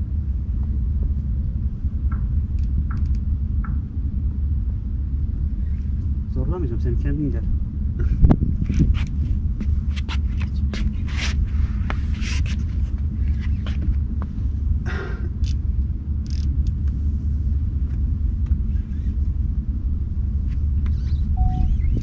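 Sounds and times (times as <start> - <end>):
boat engine rumbling: 0.0 - 22.0.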